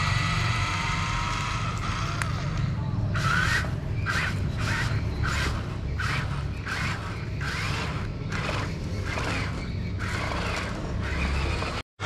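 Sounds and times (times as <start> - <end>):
toy truck motors and gears whirring: 0.0 - 11.8.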